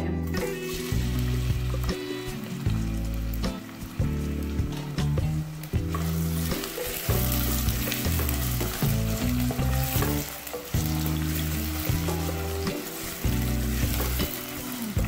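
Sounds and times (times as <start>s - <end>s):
background music: 0.0s - 15.0s
onions sizzling in oil: 0.0s - 15.0s.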